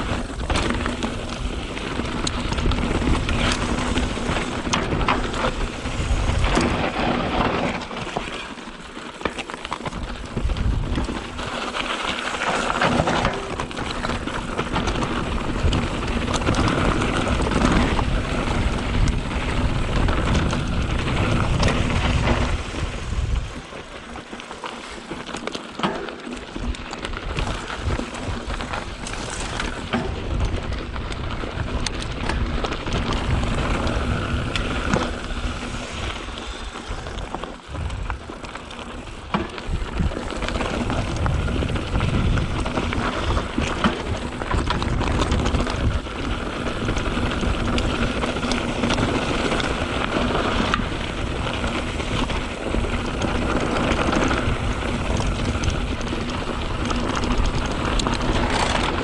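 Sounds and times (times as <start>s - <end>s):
bike knocking and rattling: 0.0s - 59.0s
bike tyres on dirt trail: 0.0s - 59.0s.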